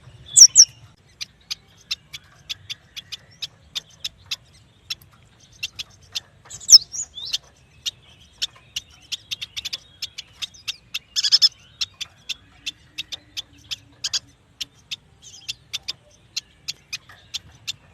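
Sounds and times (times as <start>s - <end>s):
bird chips: 0.0s - 17.9s
bird chattering: 0.2s - 17.9s.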